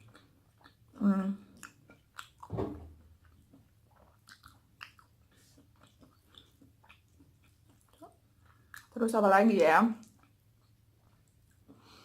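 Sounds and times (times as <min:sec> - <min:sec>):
person chewing food: 0:00.0 - 0:09.0, 0:10.0 - 0:12.0.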